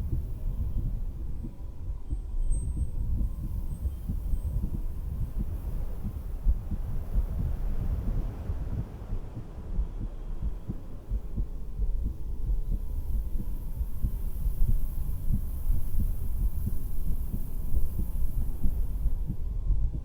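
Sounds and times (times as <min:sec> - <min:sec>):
heartbeat through stethoscope: 0:00.0 - 0:20.0.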